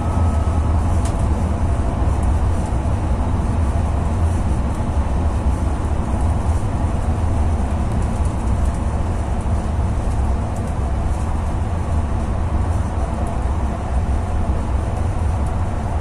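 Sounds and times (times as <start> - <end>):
train rumbling in tunnel: 0.0 - 16.0.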